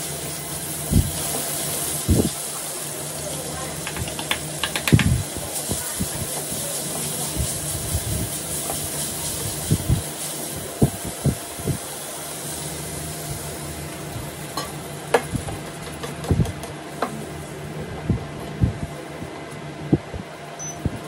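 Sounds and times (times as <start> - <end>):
chicken sizzling in a frying pan: 0.0 - 16.2, 16.9 - 17.8.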